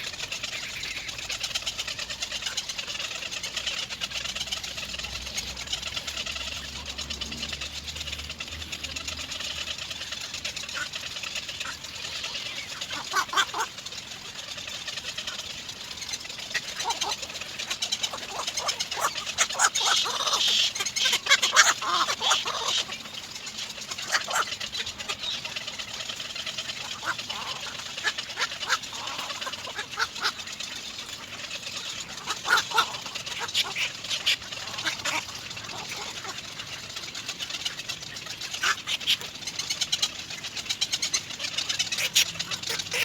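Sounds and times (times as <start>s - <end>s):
bird chicks calling: 0.0s - 43.0s.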